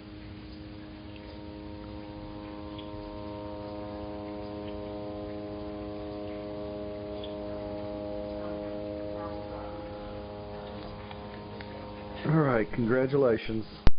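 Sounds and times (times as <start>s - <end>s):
faint ticks: 0.0s - 12.4s
steady multi-tone hum: 0.0s - 13.9s.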